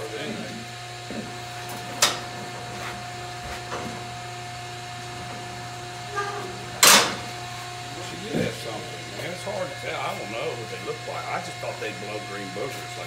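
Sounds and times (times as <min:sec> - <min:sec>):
mechanical hum with whine: 0:00.0 - 0:13.0.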